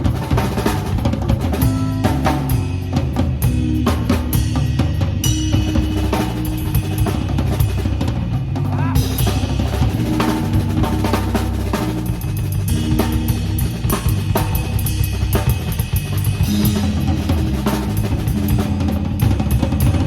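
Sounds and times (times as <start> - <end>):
drum kit playing: 0.0 - 20.0
live jazz band: 0.0 - 20.0.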